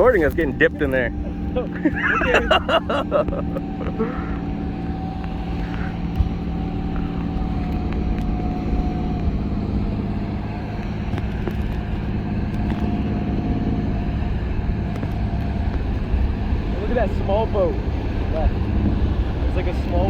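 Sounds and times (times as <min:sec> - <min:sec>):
boat engine hum: 0:00.0 - 0:20.0
wind rumbling on microphone: 0:00.0 - 0:20.0.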